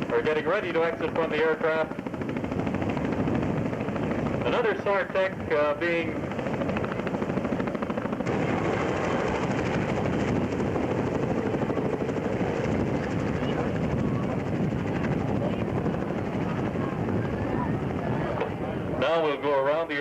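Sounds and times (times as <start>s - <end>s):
helicopter rotors chopping: 0.0s - 20.0s.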